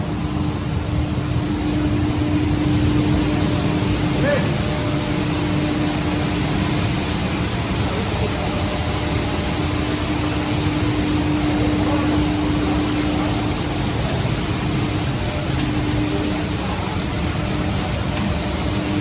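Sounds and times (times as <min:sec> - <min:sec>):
dryer fan and motor running: 0:00.0 - 0:19.0.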